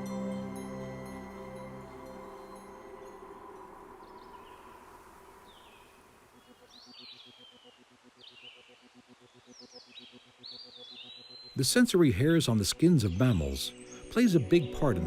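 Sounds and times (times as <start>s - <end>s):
soft background music: 0.0s - 5.8s, 8.3s - 15.0s
faint outdoor nature ambience: 0.0s - 15.0s.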